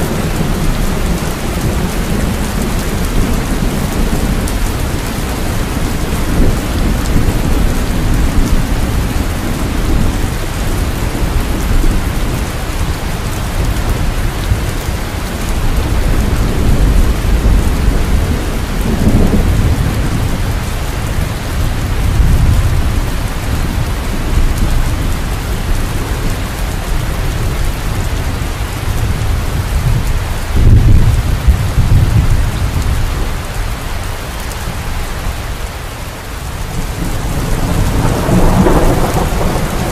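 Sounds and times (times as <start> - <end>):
low thunder rumbling: 0.0 - 35.6, 36.4 - 39.9
steady rain falling: 0.0 - 39.9.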